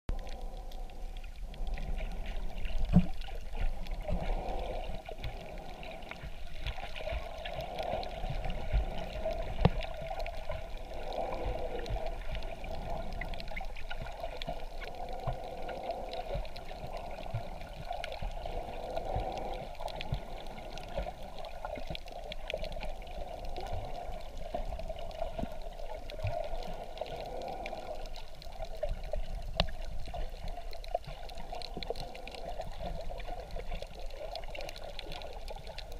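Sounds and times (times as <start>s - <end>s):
water sloshing and gurgling: 0.1s - 35.9s.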